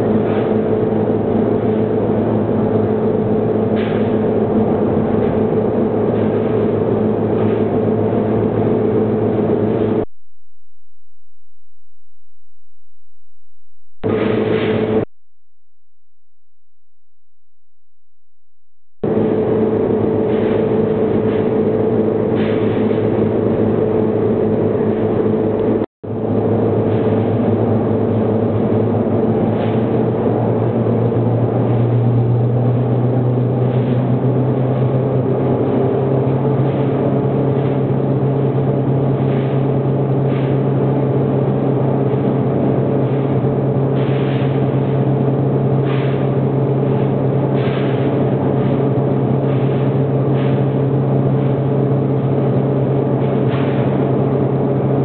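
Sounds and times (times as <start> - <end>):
machine motor humming: 0.0 - 15.1, 18.2 - 55.0.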